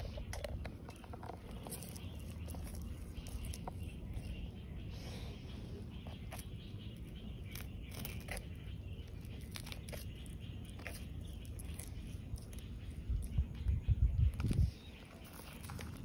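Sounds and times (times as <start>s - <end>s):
tortoise biting leaves: 0.0s - 13.7s, 14.3s - 16.0s.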